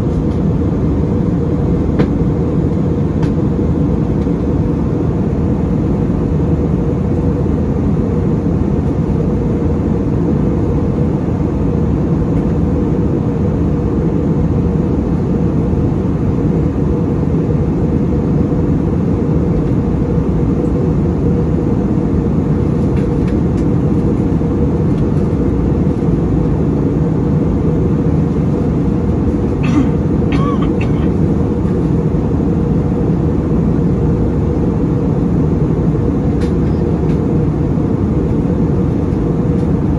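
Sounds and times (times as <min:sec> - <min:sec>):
airplane cabin engine and airflow rush: 0:00.0 - 0:39.9.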